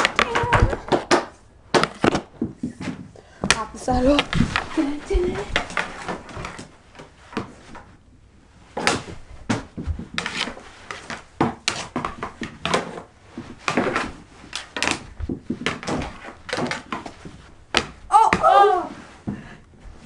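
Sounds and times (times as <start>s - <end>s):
hockey sticks clacking on ball and floor: 0.0s - 8.0s, 8.7s - 18.6s.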